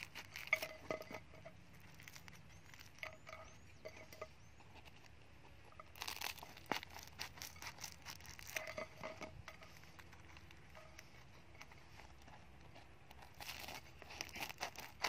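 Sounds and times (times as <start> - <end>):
bread crust crackling and tearing: 0.0 - 15.0.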